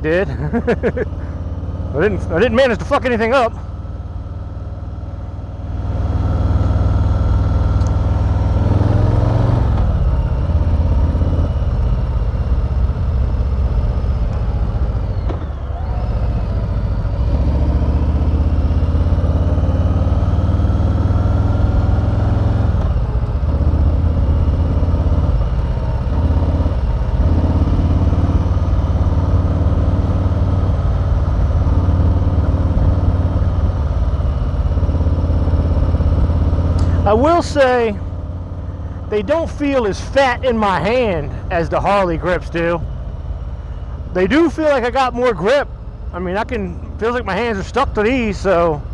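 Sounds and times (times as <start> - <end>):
motorcycle engine running loud: 0.0 - 48.9.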